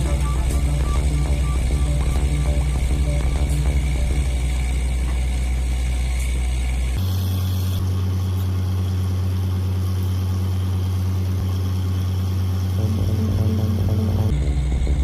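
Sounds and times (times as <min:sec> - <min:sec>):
drilling rig engine humming: 0:00.0 - 0:15.0.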